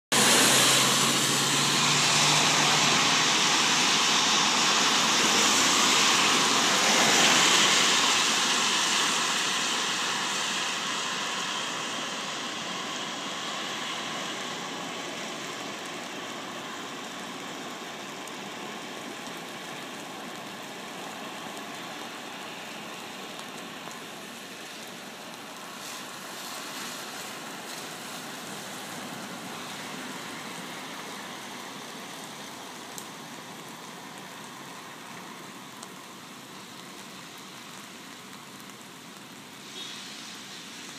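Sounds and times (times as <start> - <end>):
floodwater rushing over curb: 0.1 - 40.9.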